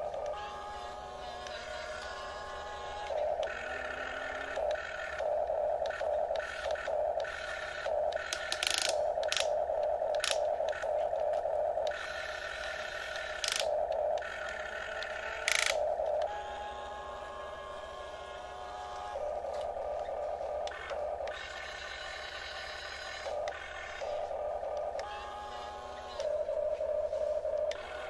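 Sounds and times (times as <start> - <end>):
small electric motors whining: 0.0 - 28.0.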